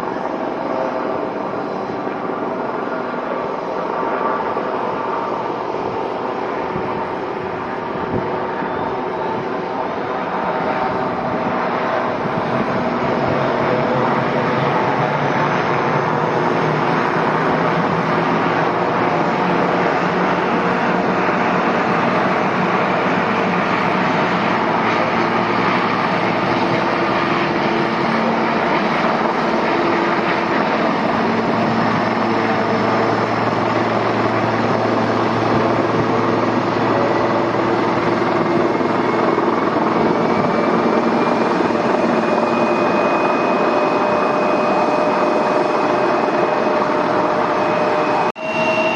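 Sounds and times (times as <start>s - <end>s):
airliner engines running: 0.0s - 48.9s
high engine whine: 0.0s - 48.9s.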